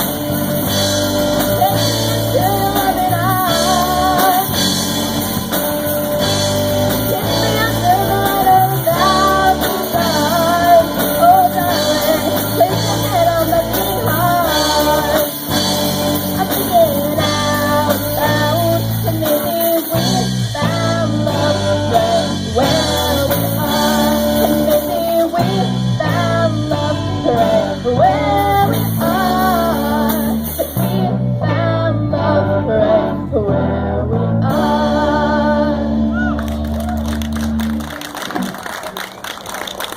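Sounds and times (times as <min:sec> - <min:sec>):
melodic lead guitar line: 0:00.0 - 0:38.6
live band playing slow ballad: 0:00.0 - 0:39.9.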